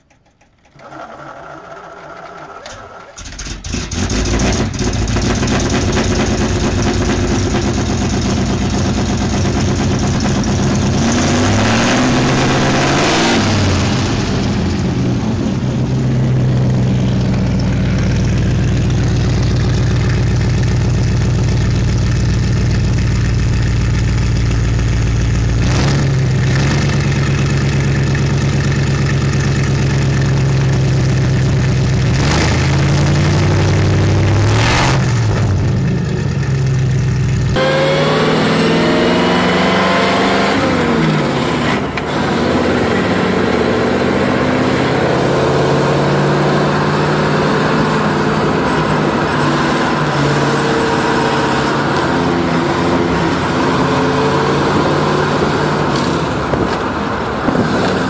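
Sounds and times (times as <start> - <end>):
car engine revving and idling: 3.2 - 58.0.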